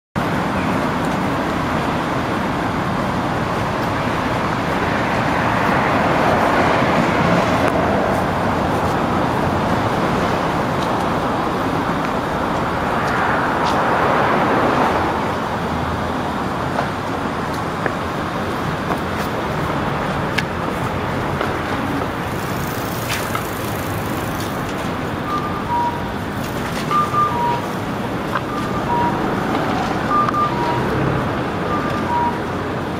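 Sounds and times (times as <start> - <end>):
passing cars hissing: 0.4 - 32.9.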